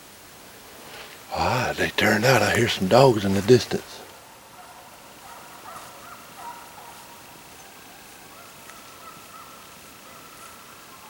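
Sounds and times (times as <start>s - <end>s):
hounds baying in distance: 0.7s - 11.0s.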